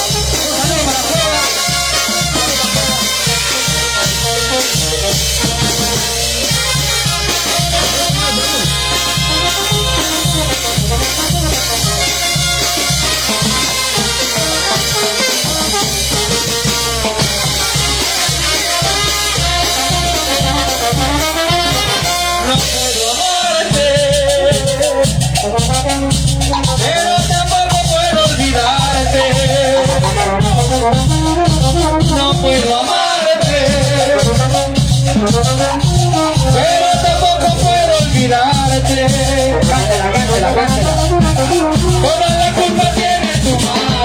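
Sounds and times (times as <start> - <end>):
brass melody: 0.0 - 44.0
drums beating: 0.0 - 44.0
fast high percussion rattle: 0.0 - 44.0
wind instruments playing: 0.0 - 44.0.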